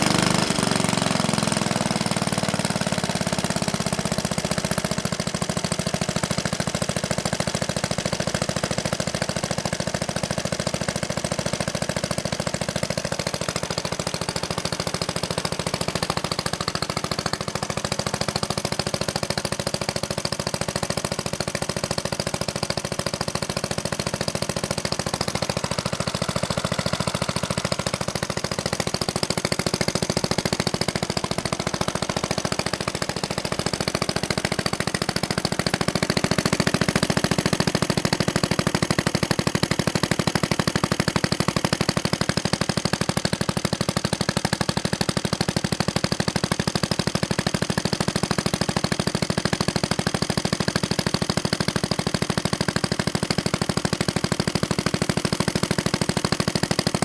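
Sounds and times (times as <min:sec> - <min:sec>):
sharp exhaust pops: 0:00.0 - 0:57.0
small engine running: 0:00.0 - 0:57.0.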